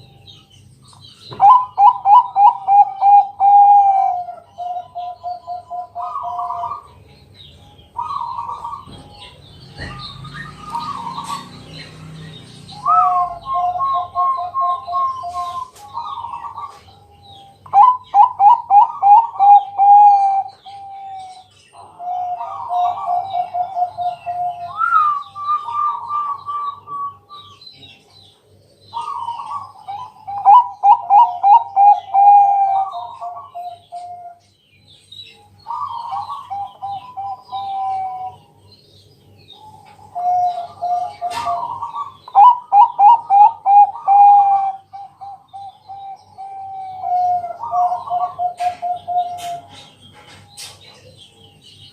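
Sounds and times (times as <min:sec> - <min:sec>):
dove cooing: 0:01.2 - 0:07.0, 0:07.6 - 0:28.0, 0:28.9 - 0:34.4, 0:35.4 - 0:38.6, 0:39.5 - 0:50.0.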